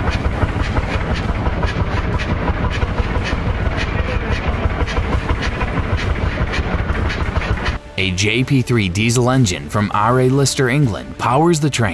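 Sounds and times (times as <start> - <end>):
diesel engine pulsing beat: 0.0 - 11.6.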